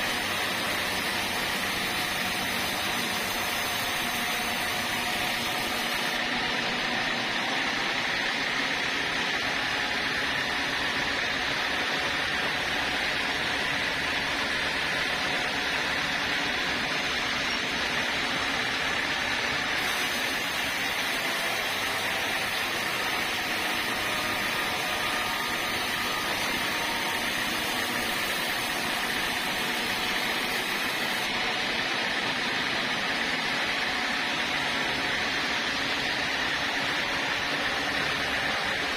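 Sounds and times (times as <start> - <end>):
sawmill saw running: 0.0 - 38.9.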